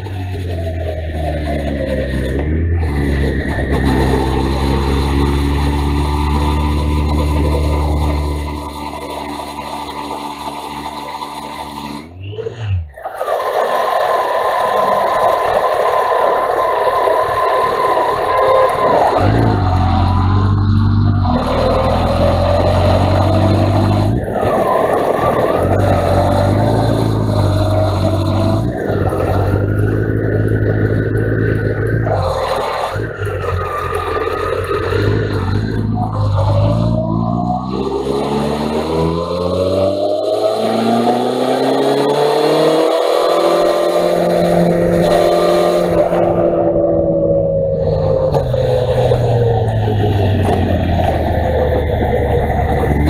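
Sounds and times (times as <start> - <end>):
motorcycle engine accelerating: 0.0 - 53.0
wind and road noise: 0.0 - 53.0.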